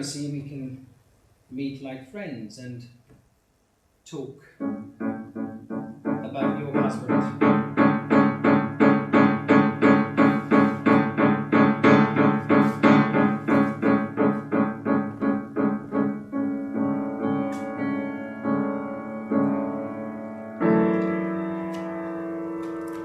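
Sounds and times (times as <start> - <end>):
piano chords: 4.6 - 23.0.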